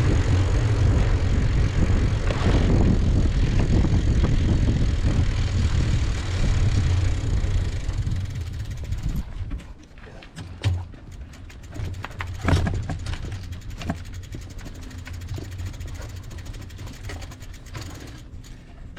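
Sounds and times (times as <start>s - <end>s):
bicycle freewheel ratchet ticking: 0.0s - 9.3s, 11.0s - 18.5s
wind and road rumble from bicycle: 0.0s - 18.9s.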